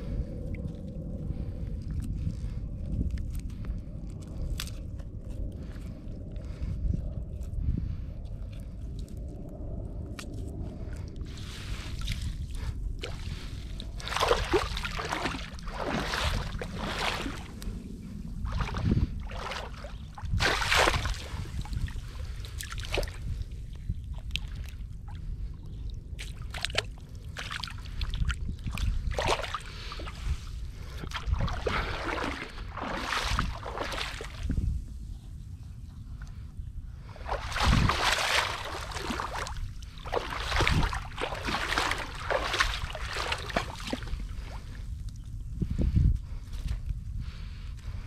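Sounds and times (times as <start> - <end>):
low rumble: 0.0 - 48.0
water splashing and sloshing: 0.1 - 34.8, 37.0 - 48.0.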